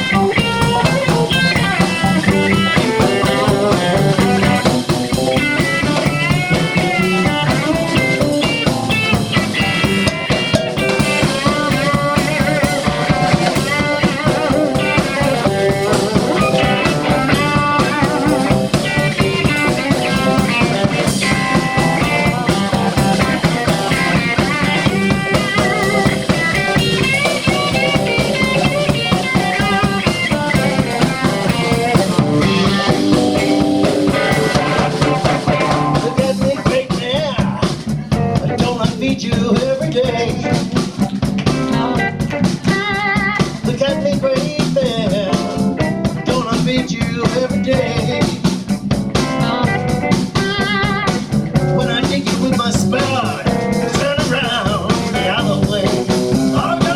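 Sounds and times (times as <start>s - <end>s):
bass guitar: 0.0s - 56.9s
lead guitar bending notes: 0.0s - 56.9s
second guitar: 0.0s - 56.9s
steady drum beat: 0.0s - 56.9s.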